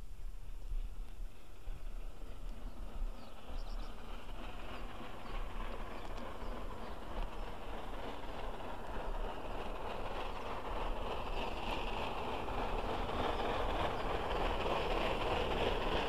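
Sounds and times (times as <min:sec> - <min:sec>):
distant steam locomotive working: 0:00.0 - 0:16.0.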